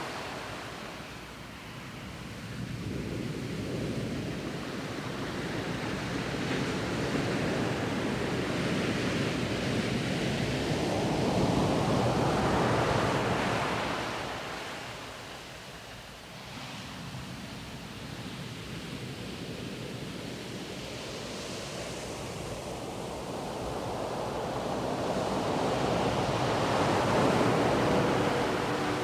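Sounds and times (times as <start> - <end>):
small waves washing onto sand: 0.0 - 29.0.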